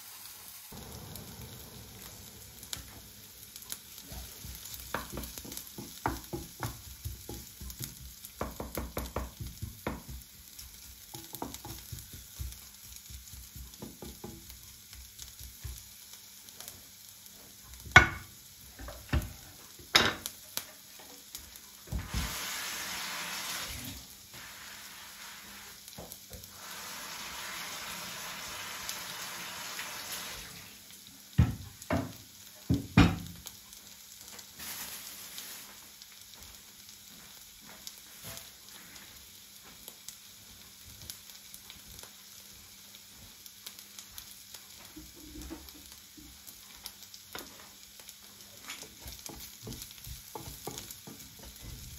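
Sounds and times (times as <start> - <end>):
food frying in a pan: 0.0 - 51.9.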